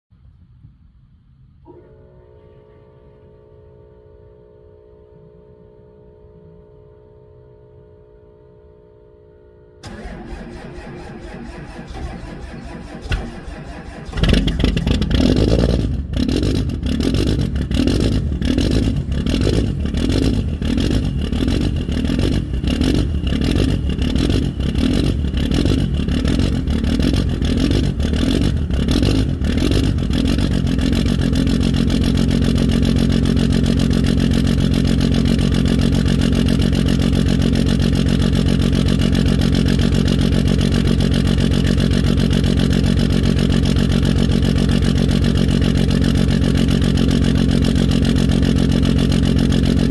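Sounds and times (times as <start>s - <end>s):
diesel engine idling unevenly: 9.8s - 49.9s.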